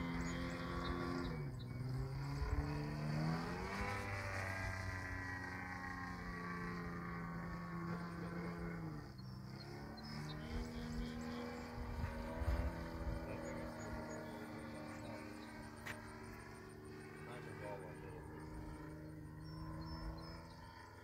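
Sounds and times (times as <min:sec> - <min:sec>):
model plane engine flying overhead: 0:00.0 - 0:21.0.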